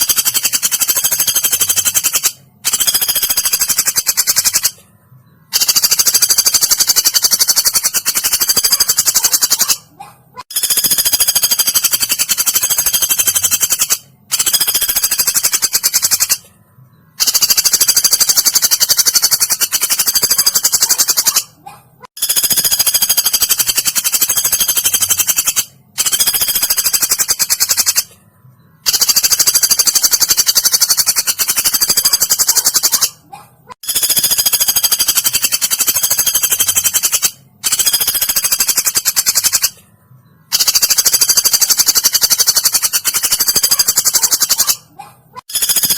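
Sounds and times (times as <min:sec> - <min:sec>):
woodpecker rapid rattling trills: 0:00.0 - 0:04.8, 0:05.4 - 0:16.5, 0:17.1 - 0:28.2, 0:28.8 - 0:39.8, 0:40.5 - 0:45.9.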